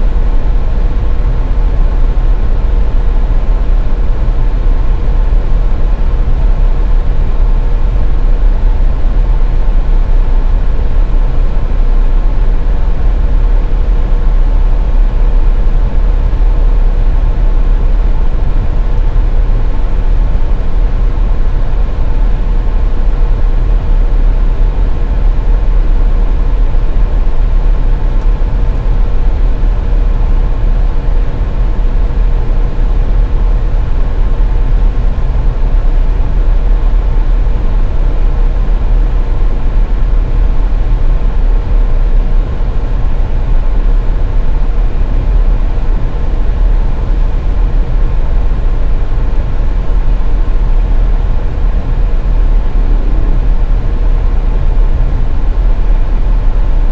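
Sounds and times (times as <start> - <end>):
faint steady hum: 0.0 - 56.9
road and engine rumble: 0.0 - 56.9.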